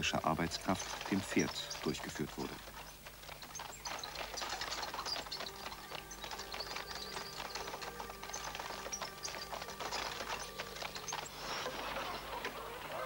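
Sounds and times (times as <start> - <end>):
plough clattering and crunching soil: 0.0 - 13.0.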